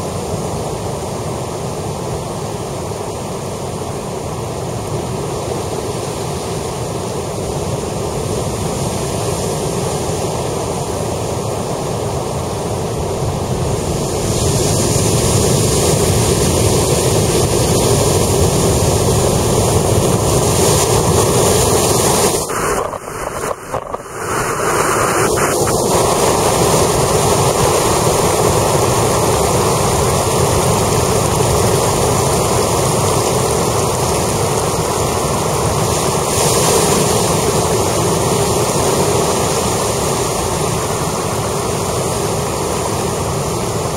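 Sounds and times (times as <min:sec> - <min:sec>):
ocean surf crashing over rocks: 0:00.0 - 0:43.9.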